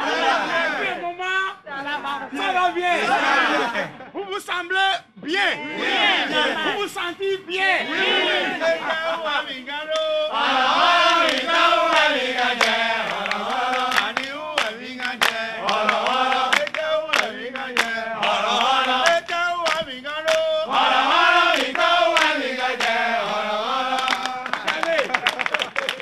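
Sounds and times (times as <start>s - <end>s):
voices chanting: 0.0s - 4.1s, 5.2s - 25.1s.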